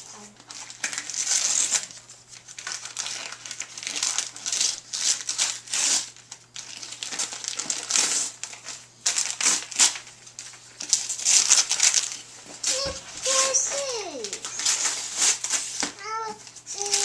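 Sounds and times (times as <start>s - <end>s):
wrapping paper tearing and crinkling: 0.0s - 17.0s.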